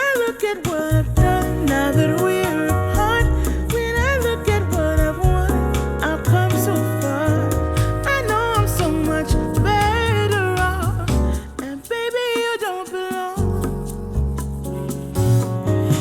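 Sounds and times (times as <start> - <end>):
soul-pop song: 0.0 - 16.0.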